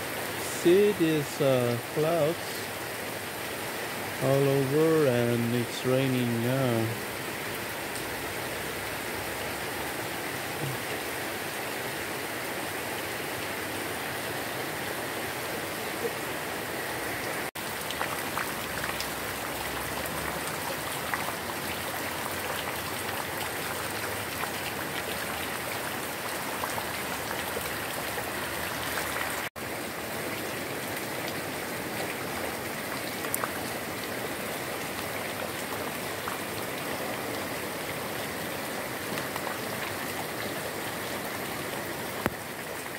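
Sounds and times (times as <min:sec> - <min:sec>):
rain on foliage: 0:00.0 - 0:42.9
runoff water running: 0:00.0 - 0:42.9.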